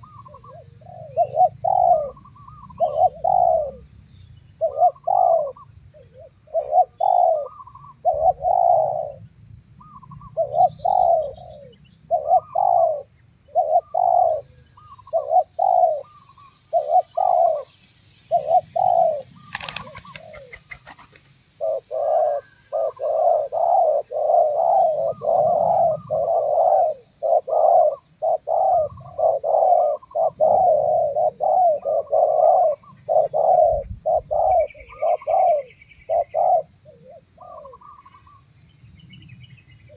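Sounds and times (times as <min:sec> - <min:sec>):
doves cooing: 0:00.0 - 0:03.9, 0:04.6 - 0:09.2, 0:09.8 - 0:17.7, 0:18.3 - 0:38.5.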